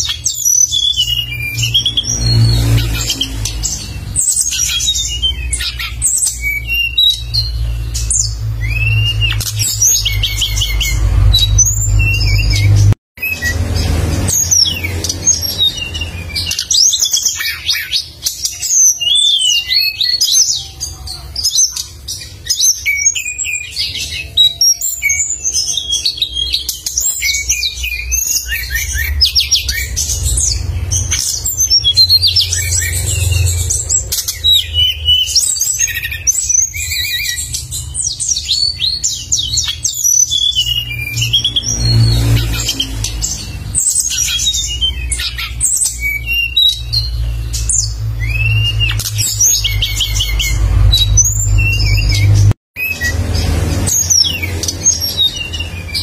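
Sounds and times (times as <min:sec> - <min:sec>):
songbird chirping and trilling: 0:00.0 - 0:56.0.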